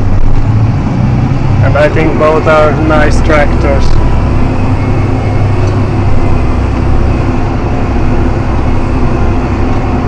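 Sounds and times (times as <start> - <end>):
tractor diesel engine droning: 0.0 - 10.0.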